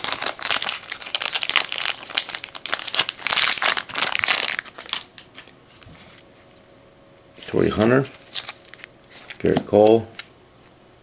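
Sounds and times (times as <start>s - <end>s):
packaging crinkling: 0.0s - 6.3s, 7.5s - 10.3s.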